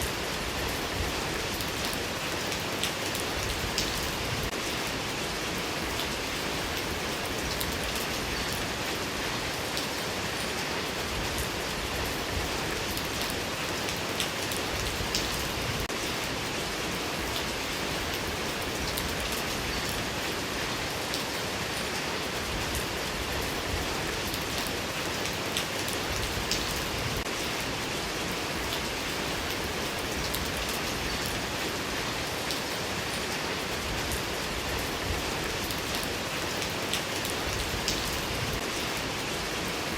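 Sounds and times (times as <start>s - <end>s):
raindrops pattering: 0.0s - 39.9s
steady rain hiss: 0.0s - 39.9s.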